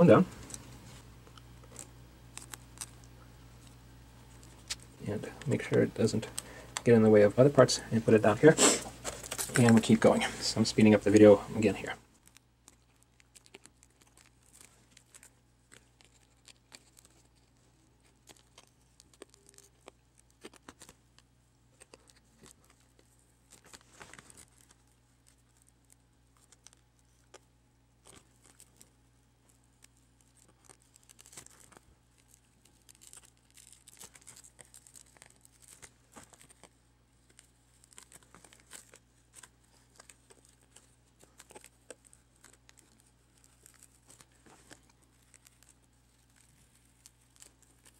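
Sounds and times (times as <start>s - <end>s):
tape crackling and tearing: 0.1s - 6.9s, 8.2s - 47.9s.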